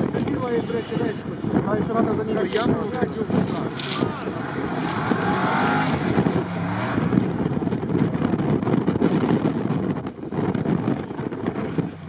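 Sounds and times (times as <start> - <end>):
engine working hard under load: 0.0 - 12.0
wind buffeting microphone: 0.0 - 12.0.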